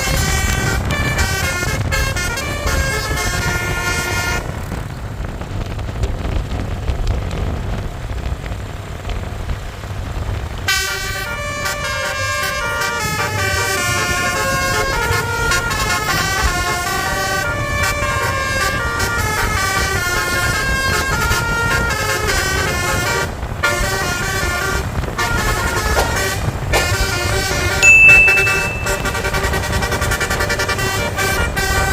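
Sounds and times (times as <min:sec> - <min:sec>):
multi-tone horn melody: 0:00.0 - 0:04.5, 0:10.7 - 0:31.9
bus engine and road rumble: 0:00.0 - 0:31.9.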